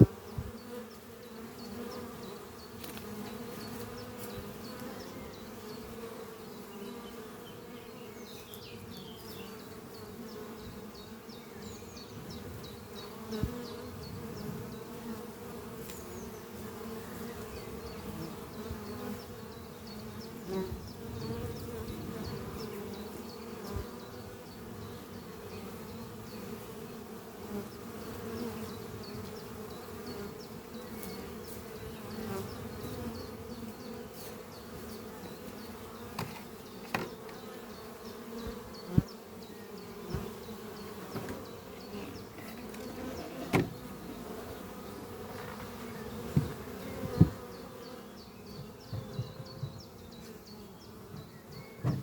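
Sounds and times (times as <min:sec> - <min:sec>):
hum of many bees: 0:00.0 - 0:52.0
single bee buzzing close: 0:00.0 - 0:52.0.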